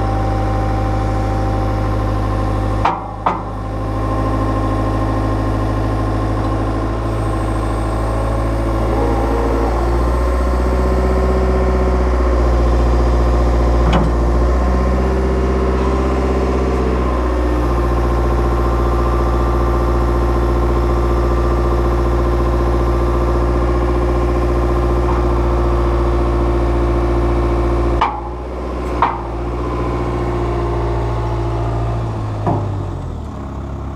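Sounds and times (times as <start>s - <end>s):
loader engine running: 0.0s - 33.9s.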